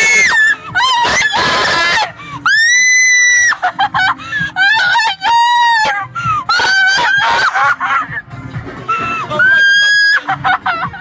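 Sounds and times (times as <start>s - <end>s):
young people screaming and yelling: 0.0s - 3.6s, 4.6s - 8.0s, 8.9s - 10.6s.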